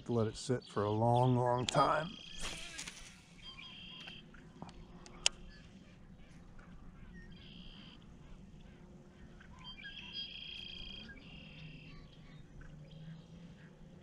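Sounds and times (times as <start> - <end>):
low background hum: 0.0 - 14.0
frogs trilling: 1.0 - 14.0.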